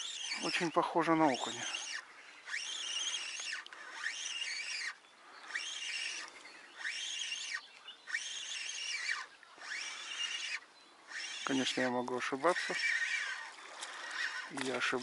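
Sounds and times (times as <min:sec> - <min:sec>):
spinning reel gear whine: 0:00.0 - 0:15.0.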